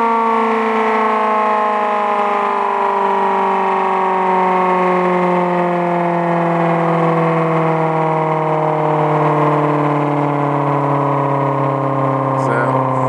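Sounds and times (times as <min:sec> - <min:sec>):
air raid siren wailing: 0:00.0 - 0:13.0.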